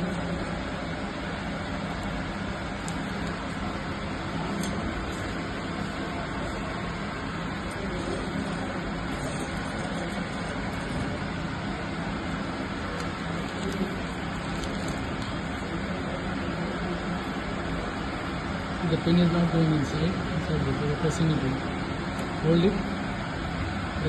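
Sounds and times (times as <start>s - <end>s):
workshop machinery humming: 0.0s - 24.0s.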